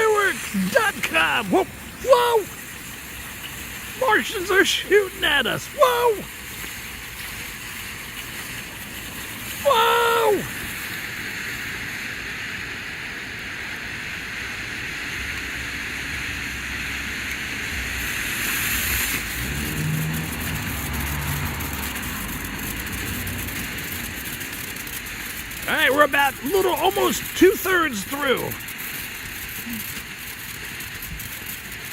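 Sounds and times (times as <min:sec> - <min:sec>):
firework fountain hissing: 0:00.0 - 0:31.9.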